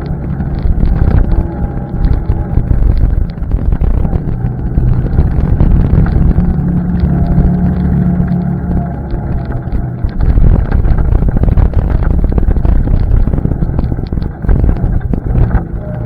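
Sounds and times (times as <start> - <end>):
atv engine running: 0.0 - 16.0
small clicks and rattles: 0.0 - 16.0
wind buffeting microphone: 0.0 - 16.0.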